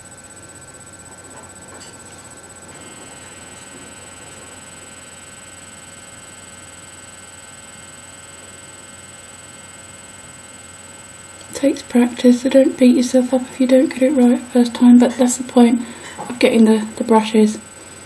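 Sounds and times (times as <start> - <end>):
electrical mains hum: 0.0 - 18.0
thin high whine: 0.0 - 18.0.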